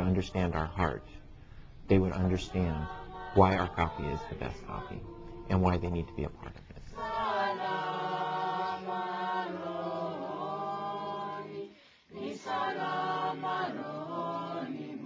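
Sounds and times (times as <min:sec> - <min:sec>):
group singing held notes: 0:01.9 - 0:15.0.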